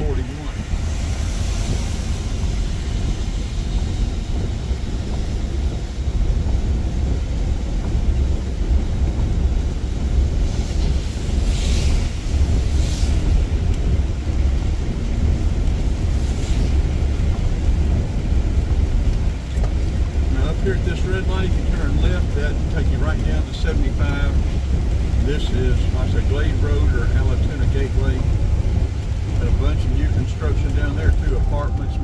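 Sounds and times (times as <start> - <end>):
engine and tyres rumbling: 0.0 - 32.0.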